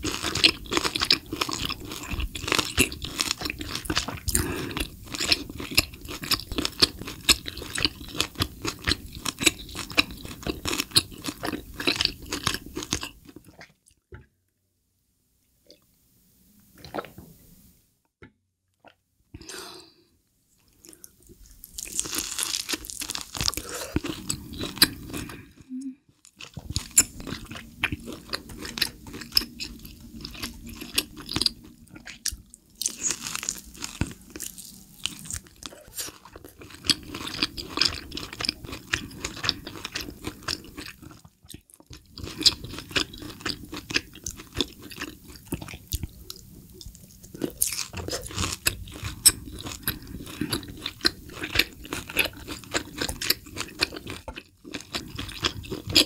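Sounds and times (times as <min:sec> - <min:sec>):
close chewing of meat: 0:00.0 - 0:13.8, 0:20.8 - 0:56.0.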